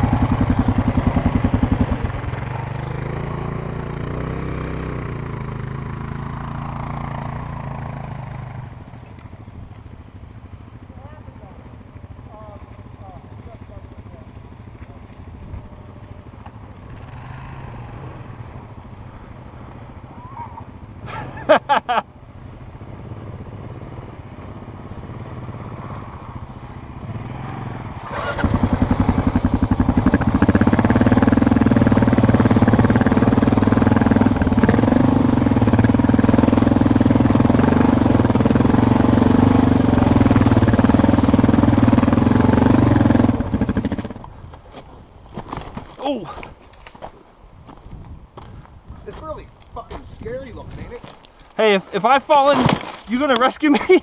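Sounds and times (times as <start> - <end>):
motorcycle engines running: 0.0 - 54.0.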